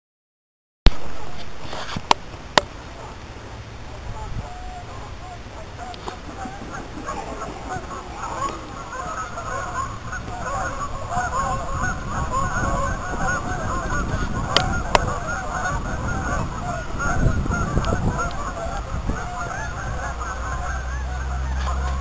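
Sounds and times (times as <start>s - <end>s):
geese honking in flight: 2.9s - 22.0s.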